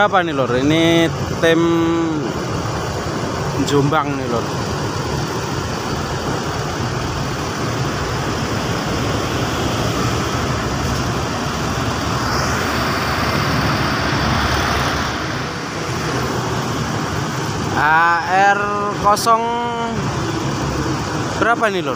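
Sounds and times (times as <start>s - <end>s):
bus engine humming: 0.0s - 21.9s
broad rush: 0.8s - 21.9s.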